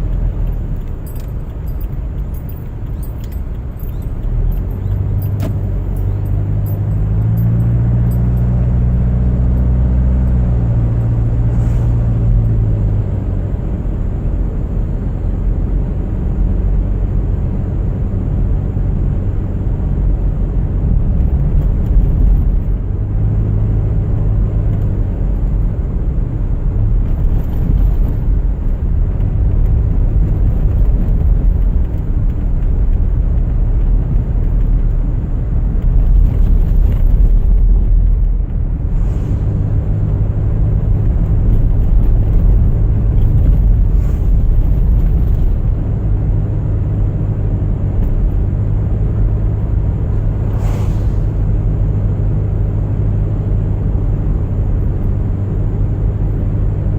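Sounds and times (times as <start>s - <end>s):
car engine and road noise: 0.0s - 56.9s.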